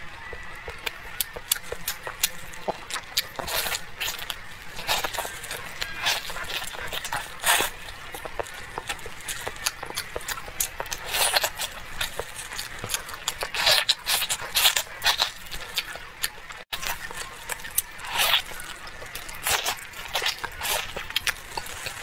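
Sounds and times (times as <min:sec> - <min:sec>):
wet smacking and chewing: 0:00.2 - 0:22.0.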